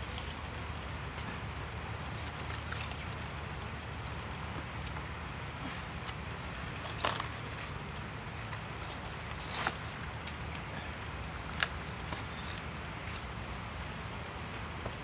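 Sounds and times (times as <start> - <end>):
dry leaves crackling: 0.0 - 15.0
high insect drone: 0.0 - 15.0.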